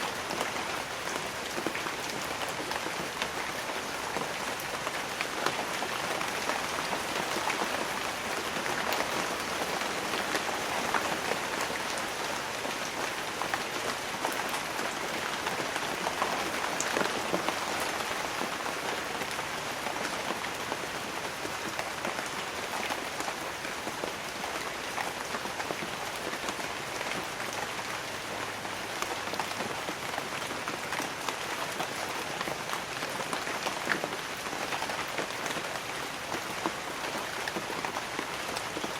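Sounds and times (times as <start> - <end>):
light rain on leaves: 0.0 - 38.9.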